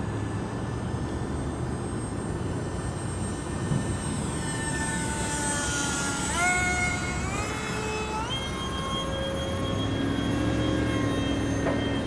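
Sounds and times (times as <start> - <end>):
electric ducted fans whining: 0.0 - 12.0.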